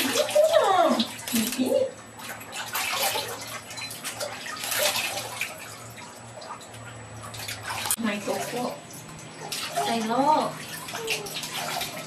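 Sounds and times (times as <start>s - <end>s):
water splashing in bathtub: 0.0s - 12.0s.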